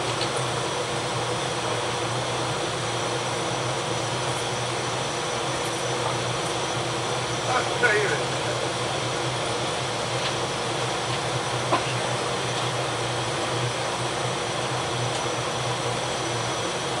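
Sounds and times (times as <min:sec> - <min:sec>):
engine room hiss: 0:00.0 - 0:17.0
low machinery hum: 0:00.0 - 0:17.0.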